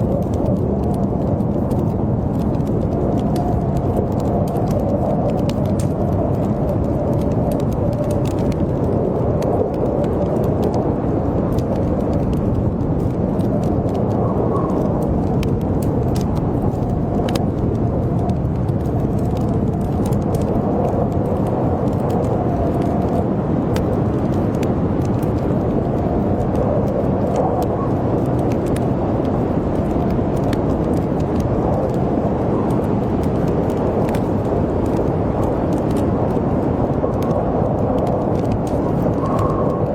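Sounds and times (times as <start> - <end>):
howling blizzard wind: 0.0 - 39.9
wood fire crackling: 0.0 - 39.9.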